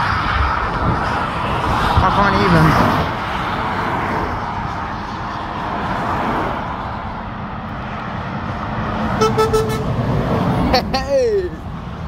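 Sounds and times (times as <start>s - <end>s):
motorway traffic noise: 0.0s - 12.0s.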